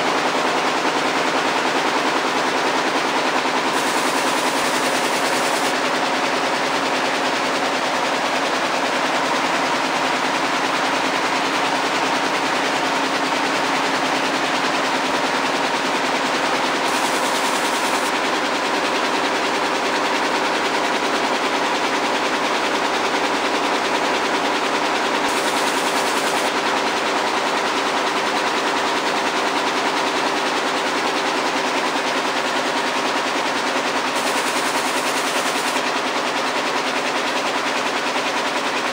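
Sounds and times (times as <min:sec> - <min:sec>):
air-jet looms clattering: 0:00.1 - 0:21.9, 0:24.2 - 0:28.5, 0:32.0 - 0:38.9.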